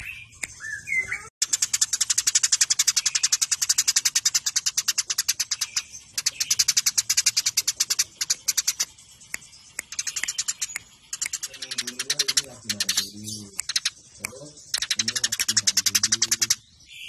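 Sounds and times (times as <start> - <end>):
sparrows chattering: 0.0 - 17.0.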